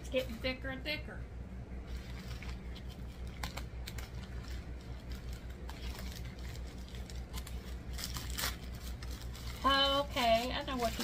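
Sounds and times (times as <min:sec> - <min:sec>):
steady low hum: 0:00.0 - 0:11.0
plastic packet crinkling: 0:01.9 - 0:11.0.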